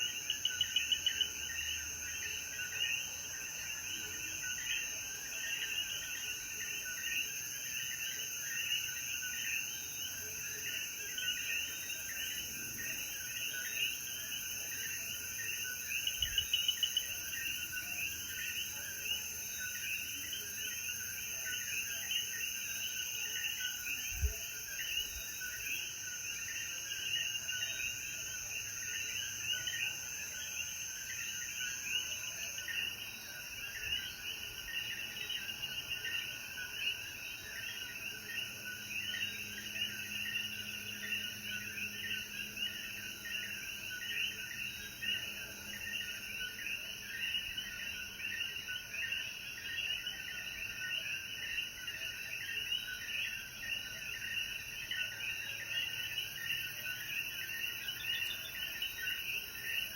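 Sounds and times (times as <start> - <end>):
frogs chirping: 0.0 - 59.9
high insect drone: 0.1 - 59.9.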